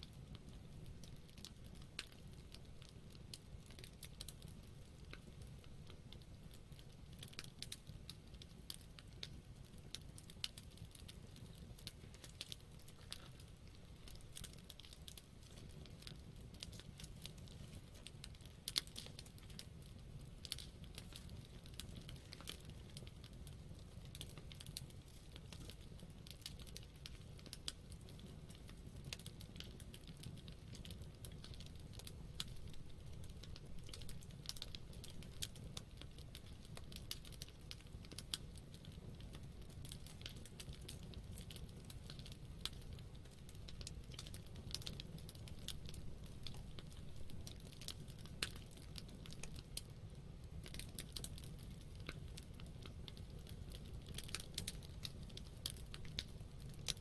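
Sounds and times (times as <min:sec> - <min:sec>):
campfire crackling and popping: 0:00.0 - 0:57.0
fire low rumble: 0:00.0 - 0:57.0.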